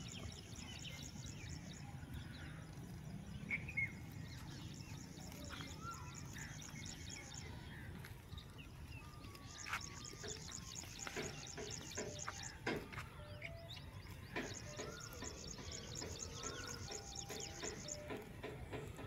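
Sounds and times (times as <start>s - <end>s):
birds chirping and whistling: 0.0s - 19.0s.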